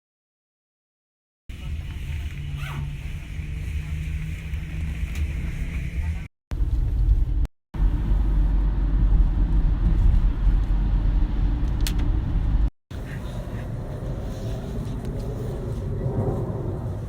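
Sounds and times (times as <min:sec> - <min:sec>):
vehicle rumble from inside: 0:01.5 - 0:17.0.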